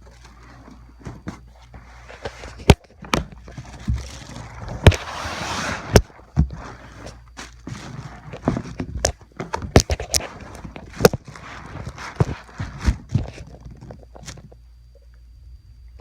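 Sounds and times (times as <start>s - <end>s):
packing rustling: 0.0s - 14.4s.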